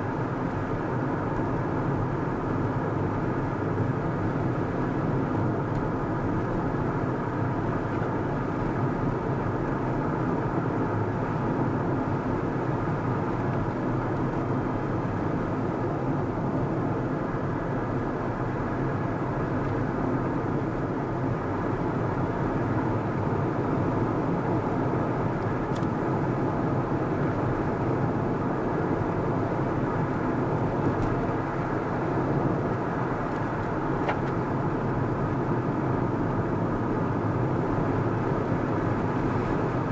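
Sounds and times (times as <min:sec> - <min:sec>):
car engine and tyre hum: 0:00.0 - 0:39.9.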